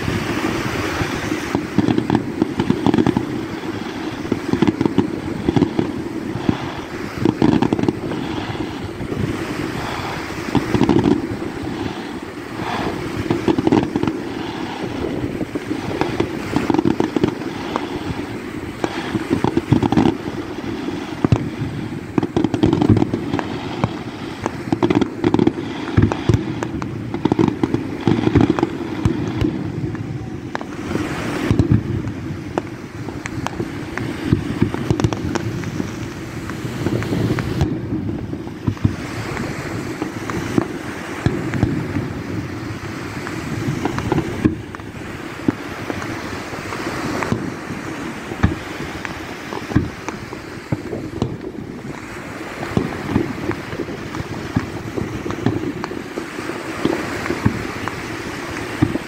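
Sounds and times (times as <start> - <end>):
fireworks bursting: 0.0 - 59.0
wind on microphone: 0.0 - 59.0.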